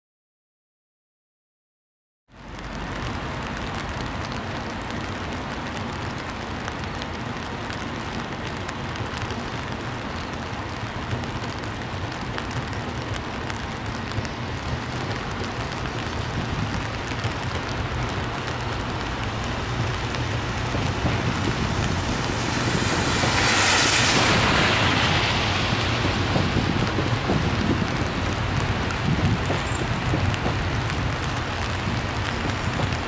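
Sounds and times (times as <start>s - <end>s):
rain on pavement and umbrella: 2.3s - 33.0s.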